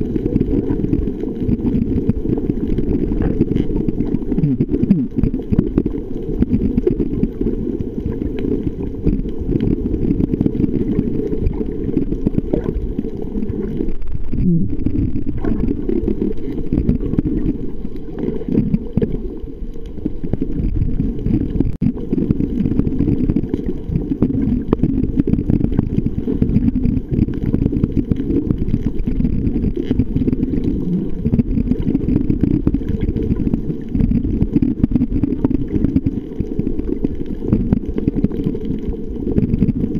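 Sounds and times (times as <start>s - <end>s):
underwater rumble of moving water: 0.0s - 39.9s.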